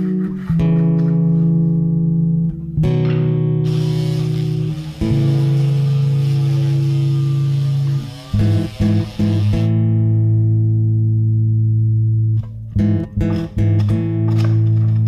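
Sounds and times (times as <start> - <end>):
instrumental guitar and bass music: 0.0 - 15.0.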